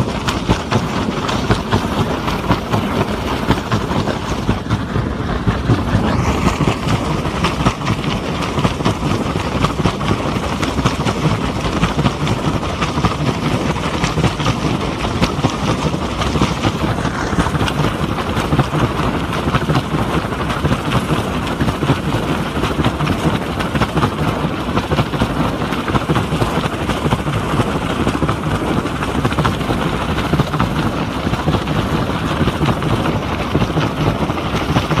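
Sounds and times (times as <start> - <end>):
helicopter rotor chopping: 0.0 - 35.0.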